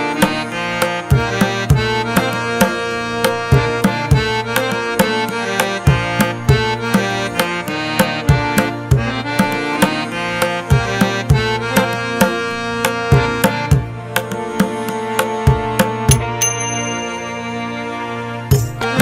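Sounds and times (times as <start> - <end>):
percussion beat: 0.0 - 17.7, 18.5 - 19.0
melody of held notes: 0.0 - 19.0.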